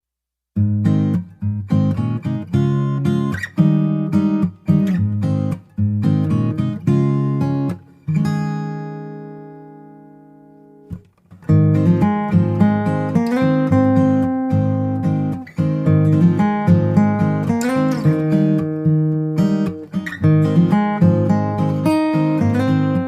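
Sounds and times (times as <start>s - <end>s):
acoustic guitar strumming chords: 0.6s - 23.0s.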